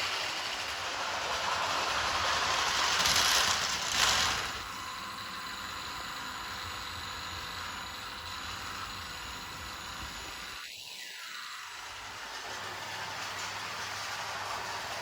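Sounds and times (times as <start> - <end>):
toy train running on plastic track: 0.0 - 15.0.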